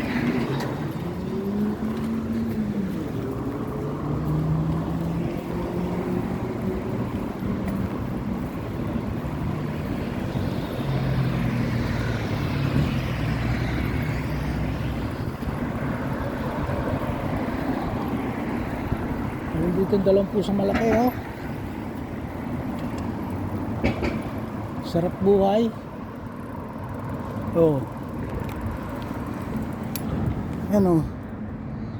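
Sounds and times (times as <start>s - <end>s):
passing vehicle engines: 0.0s - 31.9s
road traffic rumble: 0.0s - 31.9s.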